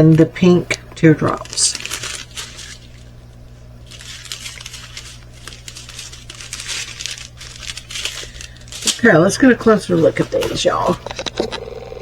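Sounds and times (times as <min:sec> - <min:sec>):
low steady hum: 0:00.0 - 0:12.0
plastic bags crinkling: 0:00.0 - 0:12.0.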